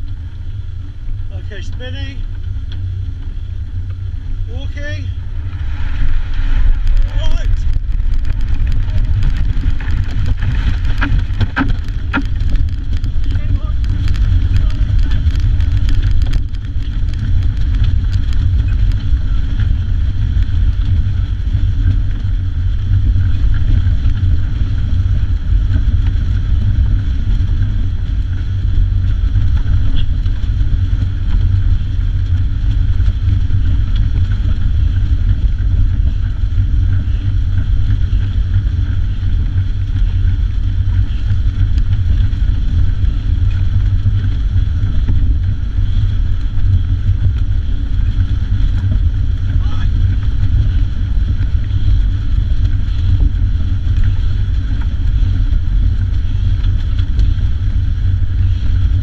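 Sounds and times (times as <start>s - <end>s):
rumble of rushing air: 0.0s - 59.0s
steady high whine: 0.0s - 59.0s.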